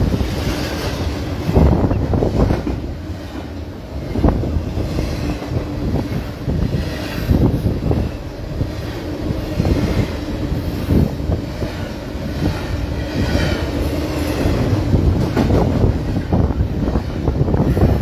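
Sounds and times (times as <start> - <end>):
steel wheels rumbling on rail: 0.0 - 18.0
train cars clanking: 0.0 - 18.0.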